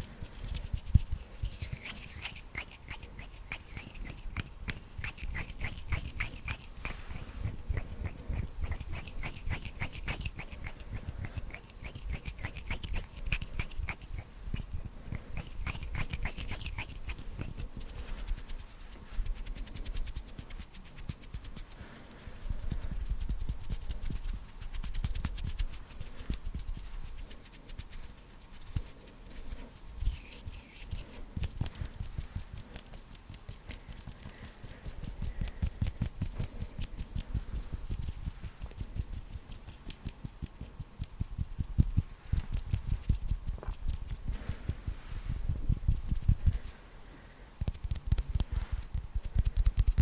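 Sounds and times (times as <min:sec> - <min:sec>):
hands rubbing and tapping: 0:00.0 - 0:46.7, 0:47.6 - 0:50.0.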